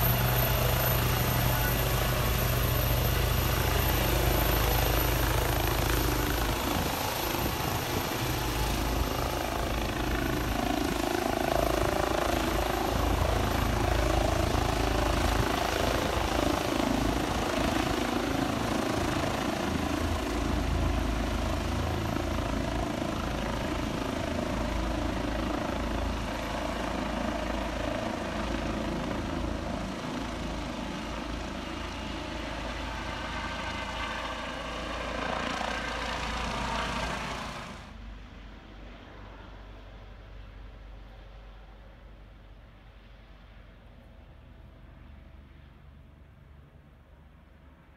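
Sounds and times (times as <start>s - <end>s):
helicopter rotor and engines: 0.0s - 47.9s.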